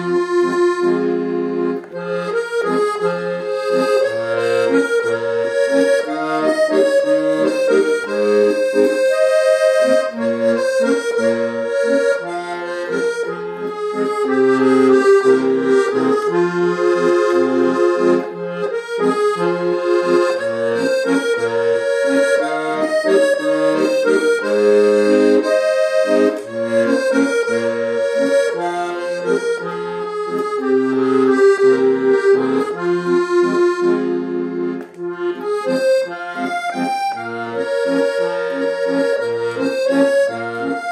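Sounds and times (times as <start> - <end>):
accordion playing: 0.0 - 40.9.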